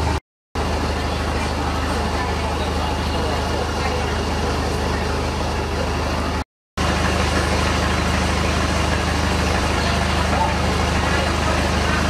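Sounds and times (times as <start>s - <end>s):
loud engine drone: 0.0s - 12.0s.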